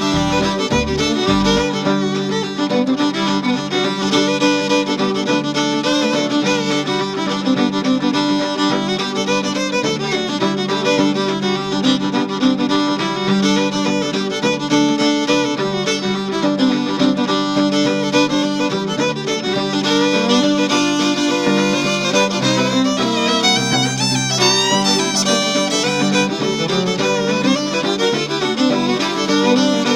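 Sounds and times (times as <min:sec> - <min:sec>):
violin-led instrumental music: 0:00.0 - 0:29.9.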